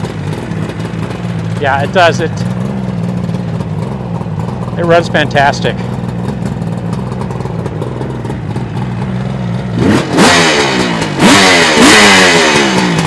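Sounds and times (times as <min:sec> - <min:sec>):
motorcycle engine idling: 0:00.0 - 0:13.0
motorcycle engine revving: 0:00.0 - 0:13.0.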